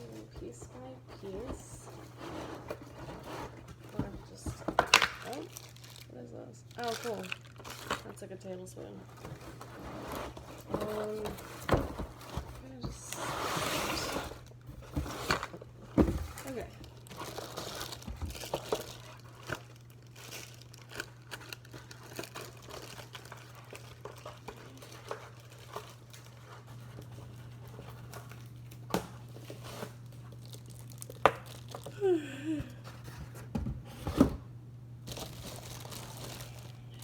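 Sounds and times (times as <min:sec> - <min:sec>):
packaging crinkling and rustling: 0:00.0 - 0:34.4, 0:35.0 - 0:37.0.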